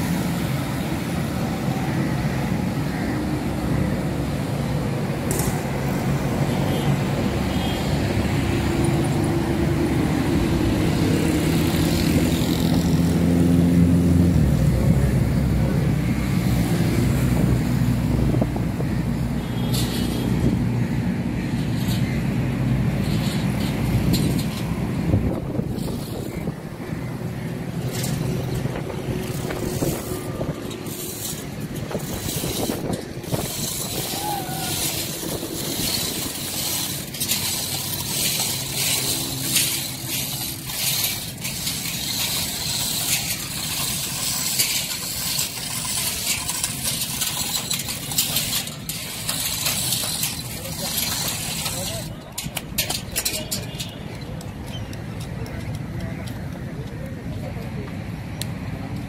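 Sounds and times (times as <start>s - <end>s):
car engines passing: 0.0s - 59.0s
motorcycle engines passing: 0.0s - 59.0s.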